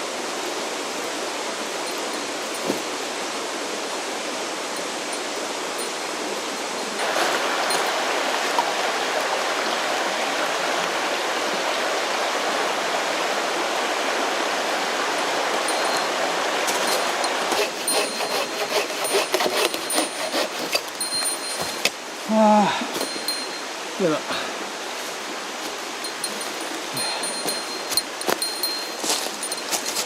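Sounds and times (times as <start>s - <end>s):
stream rushing: 0.0s - 30.0s.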